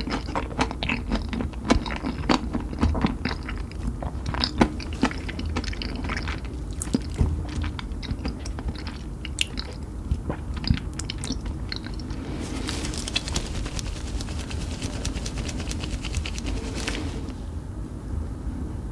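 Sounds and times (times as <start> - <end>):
chewing and crunching chicken: 0.0 - 17.2.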